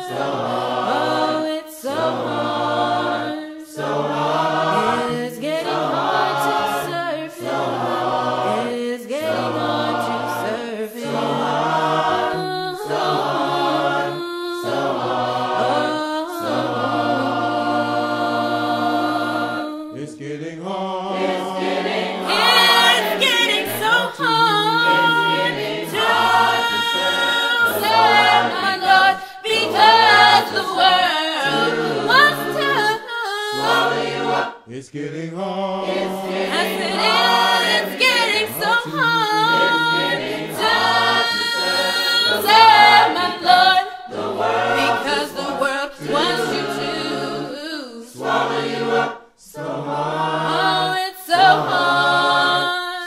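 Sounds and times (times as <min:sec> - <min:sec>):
choir singing a cappella: 0:00.0 - 0:53.0.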